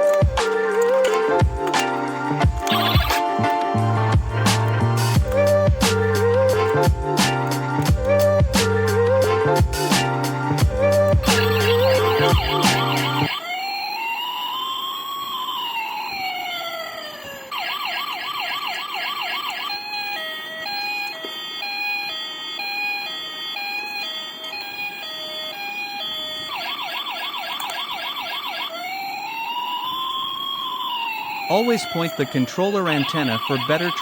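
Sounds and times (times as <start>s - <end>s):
toy electronic siren: 0.0s - 34.0s.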